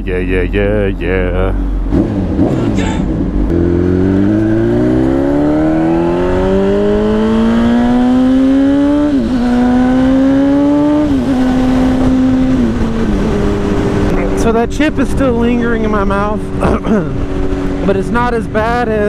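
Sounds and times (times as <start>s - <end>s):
motorcycle engine accelerating hard: 1.3s - 19.0s.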